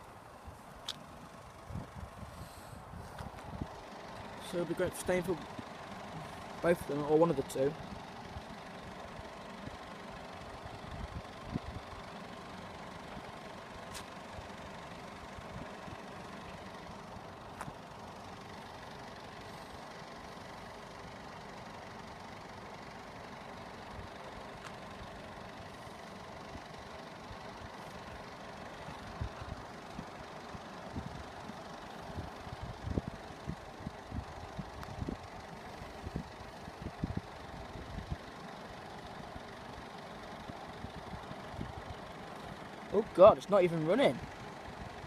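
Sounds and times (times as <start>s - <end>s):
road vehicles idling: 0.0s - 45.0s.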